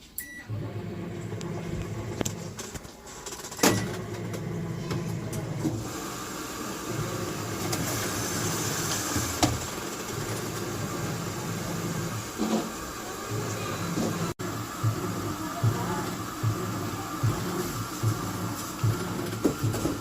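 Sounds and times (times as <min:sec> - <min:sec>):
washing machine humming: 0:00.2 - 0:20.0.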